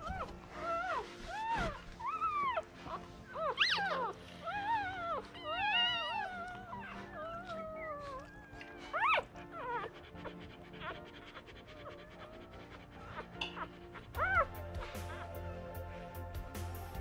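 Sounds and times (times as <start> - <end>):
puppies squealing and whining: 0.0 - 16.0.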